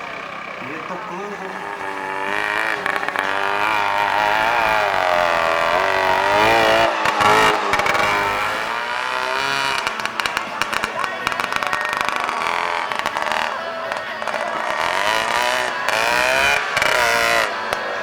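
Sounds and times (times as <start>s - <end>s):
tractor engine revving: 0.0s - 18.0s.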